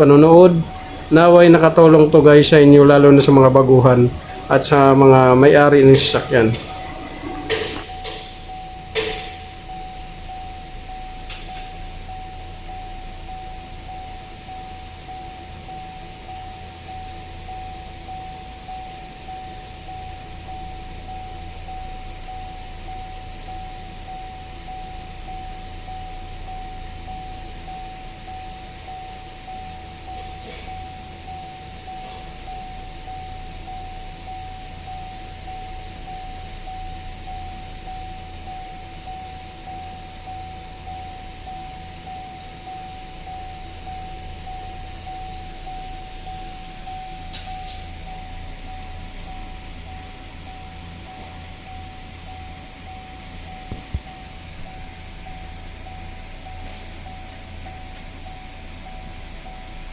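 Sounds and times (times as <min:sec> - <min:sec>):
high whine: 0:00.0 - 0:59.9
low machine hum: 0:00.0 - 0:59.9.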